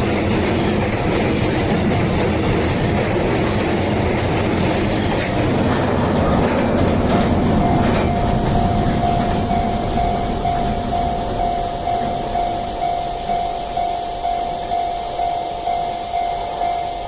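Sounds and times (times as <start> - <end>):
level crossing warning bell: 0.0 - 17.0
train rumbling past: 0.0 - 17.0.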